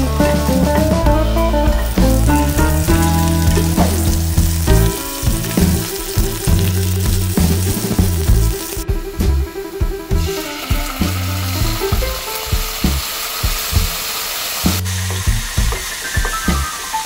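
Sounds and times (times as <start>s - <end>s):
background music: 0.0s - 17.0s
food sizzling in hot oil: 1.6s - 8.8s, 10.2s - 17.0s.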